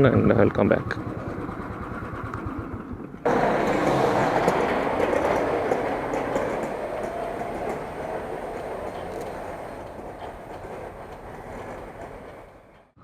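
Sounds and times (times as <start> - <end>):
train rumbling on rails: 0.0 - 13.0
clicks of train wheels: 0.4 - 13.0.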